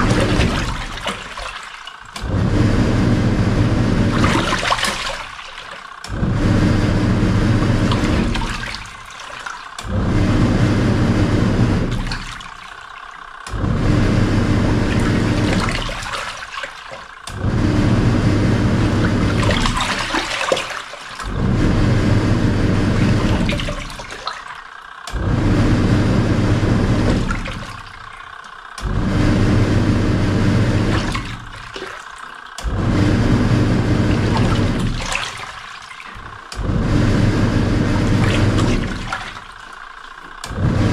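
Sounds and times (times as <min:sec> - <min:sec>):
washing machine motor hum: 0:00.0 - 0:40.9
water churning: 0:00.0 - 0:40.9.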